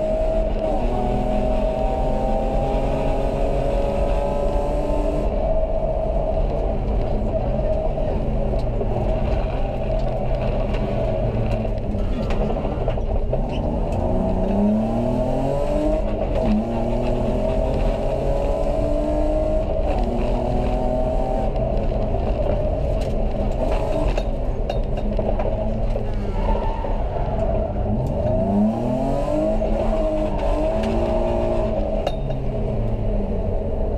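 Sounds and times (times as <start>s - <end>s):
rally car engine revving: 0.0s - 33.9s
road and tyre noise: 0.0s - 33.9s.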